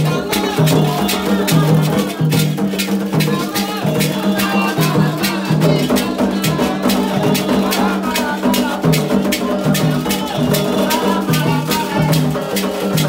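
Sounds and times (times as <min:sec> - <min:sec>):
drums beating: 0:00.0 - 0:13.0
shaken rattles: 0:00.0 - 0:13.0
voices singing: 0:00.0 - 0:13.0.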